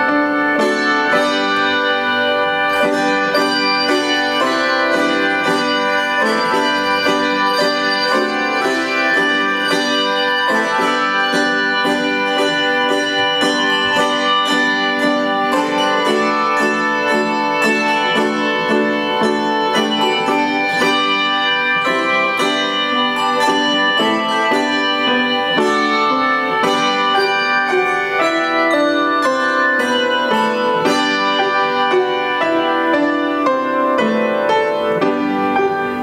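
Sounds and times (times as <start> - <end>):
handbell choir playing melody: 0.0 - 36.0.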